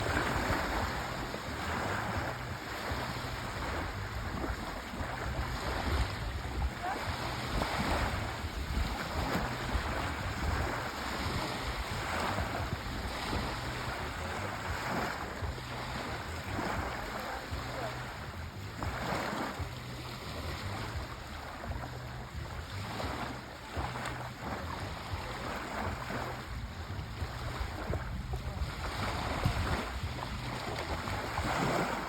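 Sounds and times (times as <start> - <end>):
sea waves washing ashore: 0.0 - 32.0.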